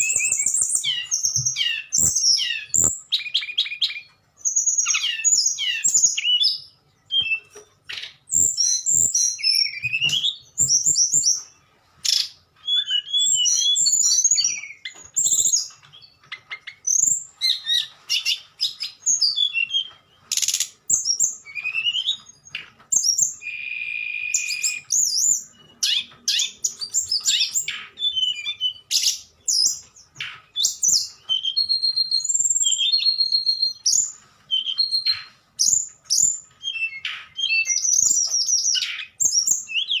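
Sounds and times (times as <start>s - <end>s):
songbird whistling: 0.0s - 40.0s.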